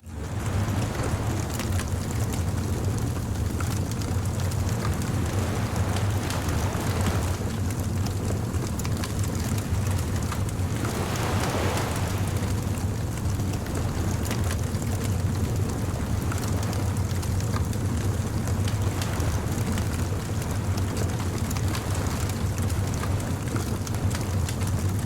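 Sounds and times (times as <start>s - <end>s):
surf washing on a beach: 0.0s - 25.0s
bonfire crackling: 0.1s - 22.0s.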